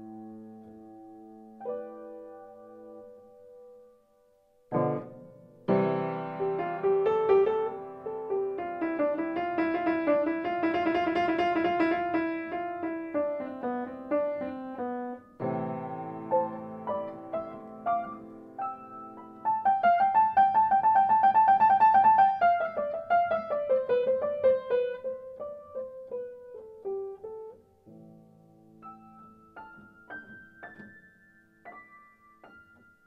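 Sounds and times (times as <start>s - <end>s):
solo piano music: 0.0s - 33.0s.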